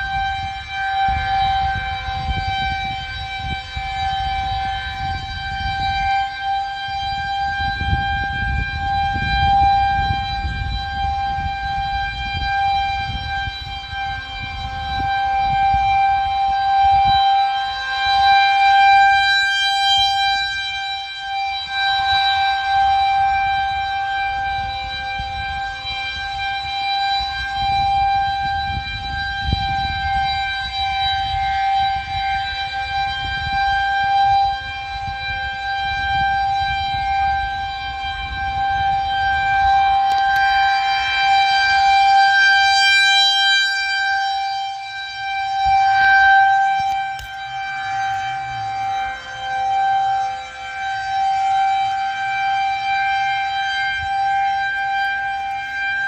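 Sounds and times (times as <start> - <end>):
warning siren: 0.0 - 56.0.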